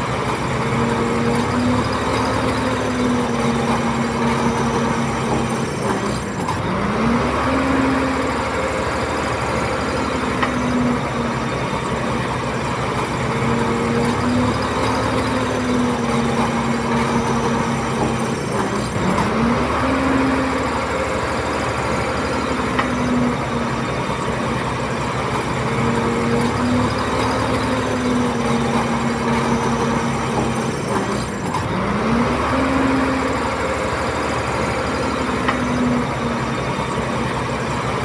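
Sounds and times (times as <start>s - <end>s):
bulldozer diesel engine: 0.0s - 38.0s.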